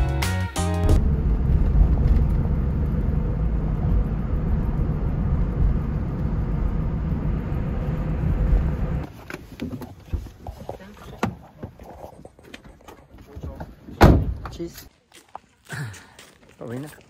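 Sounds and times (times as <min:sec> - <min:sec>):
car engine and road rumble: 0:00.9 - 0:14.8.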